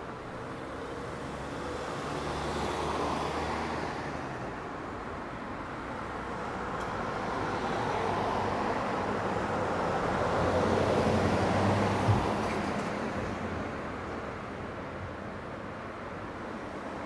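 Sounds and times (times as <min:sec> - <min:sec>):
steady traffic hum: 0:00.0 - 0:17.0.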